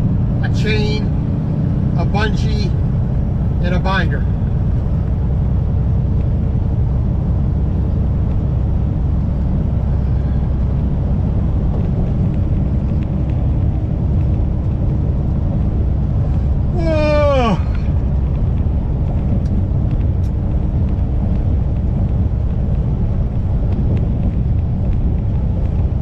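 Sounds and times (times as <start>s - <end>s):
faint steady engine tone: 0.0s - 26.0s
truck engine and road rumble: 0.0s - 26.0s.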